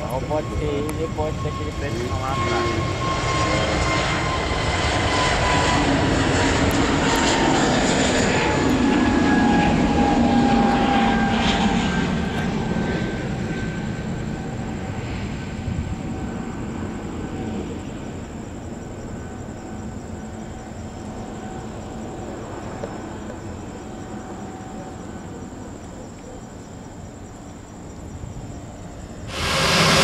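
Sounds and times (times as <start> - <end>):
jet engines whining: 0.0 - 25.1, 28.3 - 30.0.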